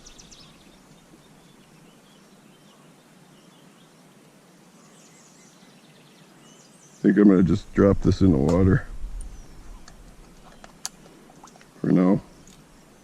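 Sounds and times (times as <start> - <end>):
faint birds chirping: 0.0 - 13.0
outdoor background hiss: 0.0 - 13.0.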